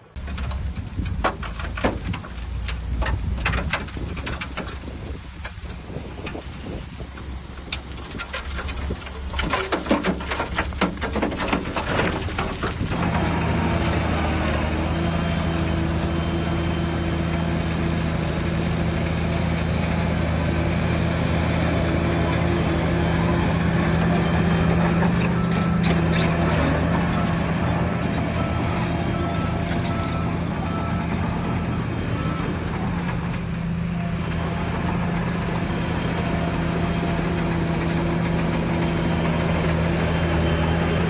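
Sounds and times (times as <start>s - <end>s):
diesel earthmoving machine engine: 0.0s - 41.0s
crackling and knocking: 0.2s - 5.9s, 7.1s - 40.0s.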